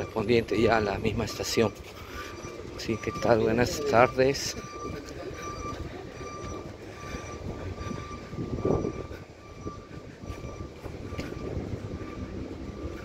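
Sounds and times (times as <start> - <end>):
street traffic rumble: 0.0 - 13.0
high thin mechanical whine: 0.4 - 13.0.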